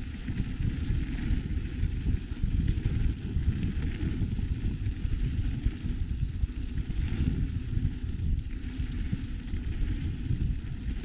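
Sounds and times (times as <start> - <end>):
mountain bike rattling on dirt trail: 0.0 - 11.0
wind buffeting microphone: 0.0 - 11.0.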